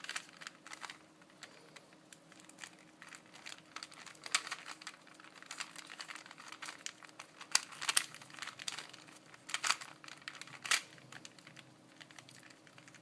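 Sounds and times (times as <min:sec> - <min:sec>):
puzzle cube clicking and rattling: 0:00.0 - 0:01.6, 0:02.2 - 0:13.0.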